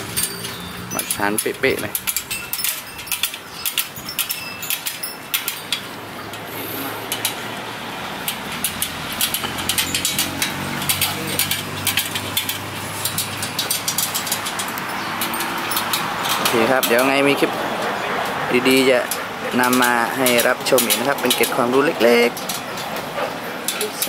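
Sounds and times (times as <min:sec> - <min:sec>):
spoke wrench clicking on spokes: 0:00.0 - 0:17.5, 0:18.7 - 0:23.0
steady engine hum: 0:00.0 - 0:24.0.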